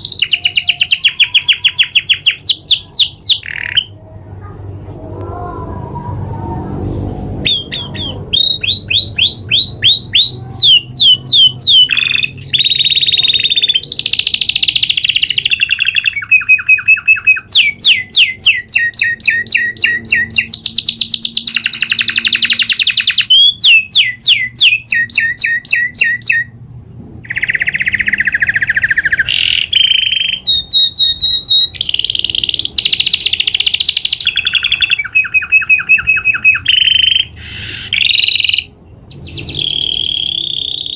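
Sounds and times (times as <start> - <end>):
canary singing trills: 0.0 - 4.7, 6.8 - 26.6, 27.2 - 40.9.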